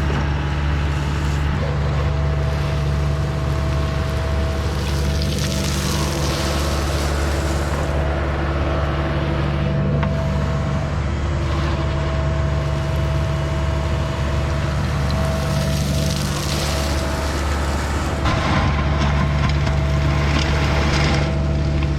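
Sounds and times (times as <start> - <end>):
diesel engine droning: 0.0 - 21.9.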